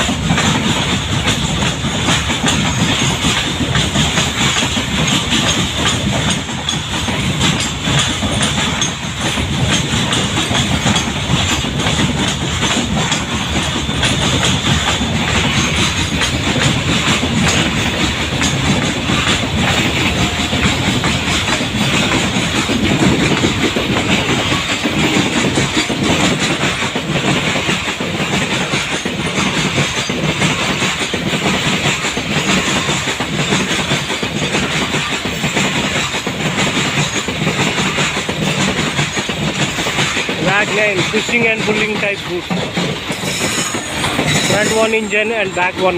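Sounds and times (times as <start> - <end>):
freight train rumbling past: 0.0 - 45.9
wheels clattering over rail joints: 0.0 - 45.9.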